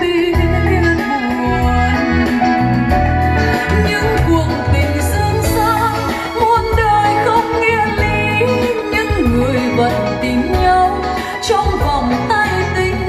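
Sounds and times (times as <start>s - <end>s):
song over speakers: 0.0s - 13.0s.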